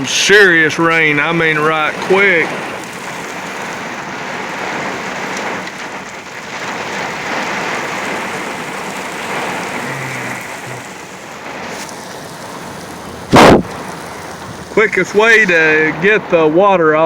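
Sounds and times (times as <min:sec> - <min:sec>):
heavy rain on vehicle roof: 0:00.0 - 0:17.0.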